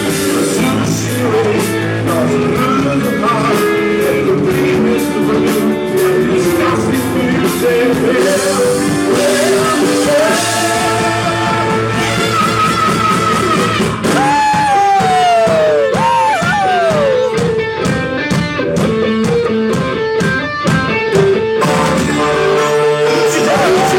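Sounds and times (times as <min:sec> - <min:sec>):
bass: 0:00.0 - 0:23.9
drums: 0:00.0 - 0:23.9
guitars: 0:00.0 - 0:23.9.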